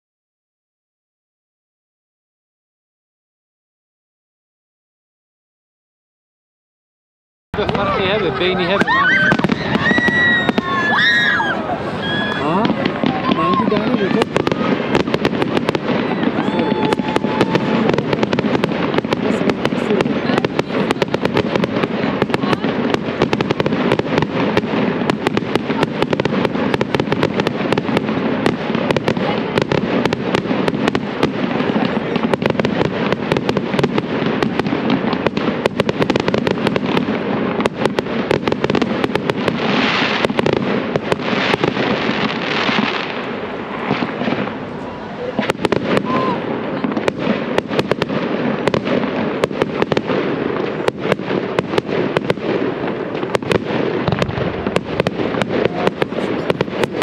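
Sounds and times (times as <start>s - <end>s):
dense crackle of sharp pops: 7.6s - 44.8s, 45.4s - 57.0s.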